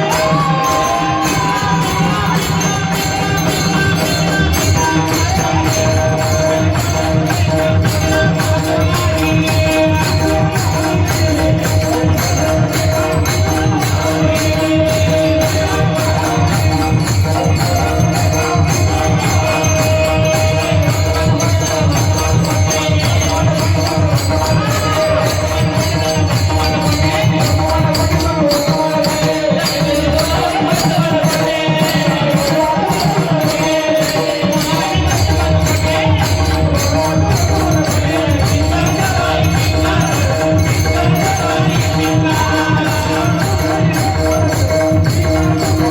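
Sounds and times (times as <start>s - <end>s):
jingling percussion: 0.0s - 45.9s.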